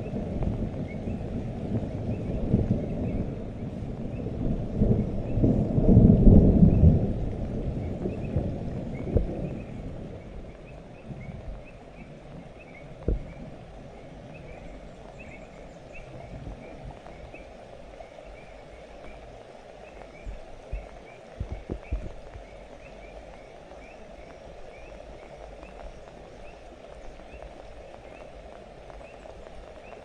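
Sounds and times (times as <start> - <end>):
thunder rumbling: 0.0 - 30.0.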